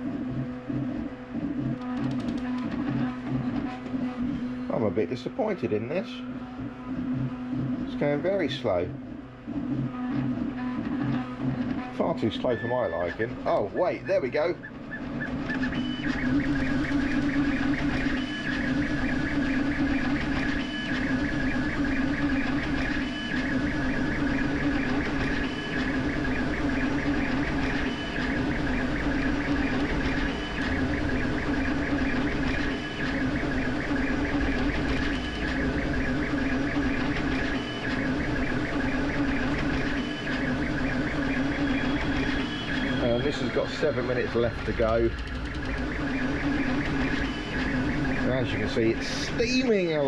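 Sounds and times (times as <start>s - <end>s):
printer whirring and chattering: 0.0s - 50.0s.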